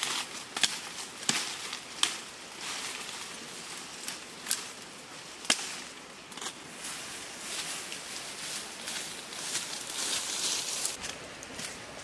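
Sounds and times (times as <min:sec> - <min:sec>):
twigs cracking: 0:00.0 - 0:06.6, 0:07.5 - 0:11.9
leaves and undergrowth rustling: 0:00.0 - 0:12.0.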